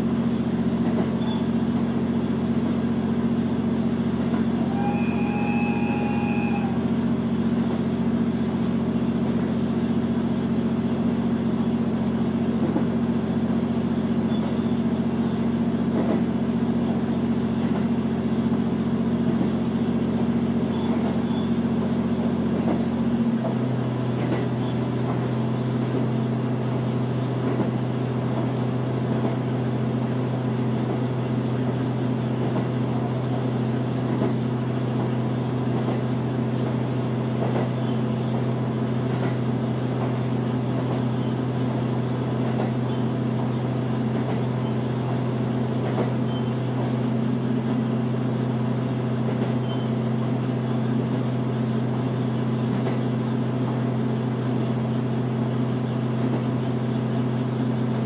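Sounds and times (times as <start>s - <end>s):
diesel engine hum: 0.0s - 58.0s
wheel and rail noise: 0.0s - 58.0s.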